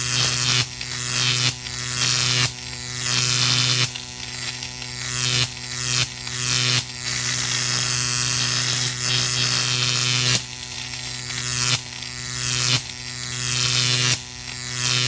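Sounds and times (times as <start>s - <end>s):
electric buzz with crackling hiss: 0.0s - 15.0s.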